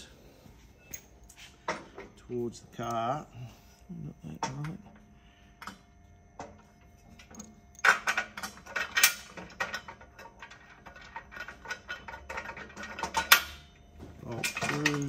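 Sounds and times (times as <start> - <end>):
metal bolts clicking and rattling: 0.8 - 3.2, 4.3 - 15.0.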